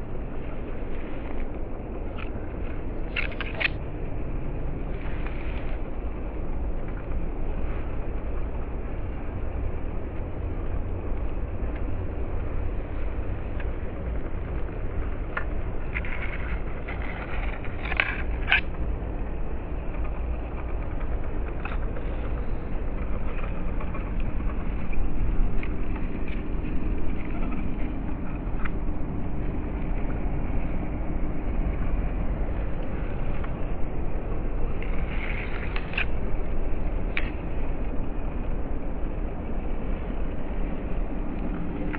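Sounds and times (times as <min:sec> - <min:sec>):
grass crackling: 0:00.0 - 0:41.9.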